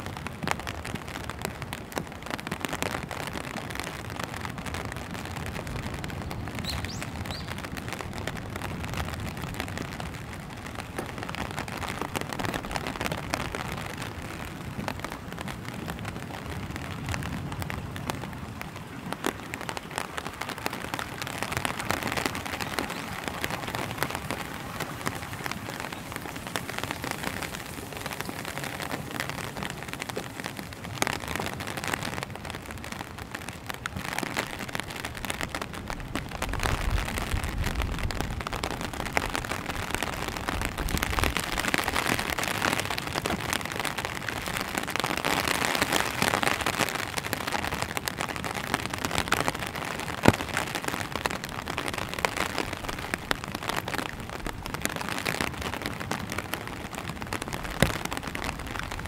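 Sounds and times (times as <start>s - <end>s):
rain pattering on pavement: 0.0s - 59.0s.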